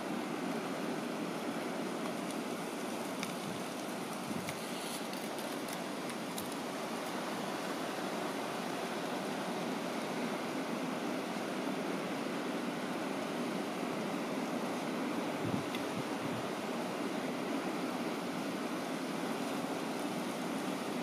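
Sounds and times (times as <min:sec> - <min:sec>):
wind through brush and leaves: 0:00.0 - 0:21.0.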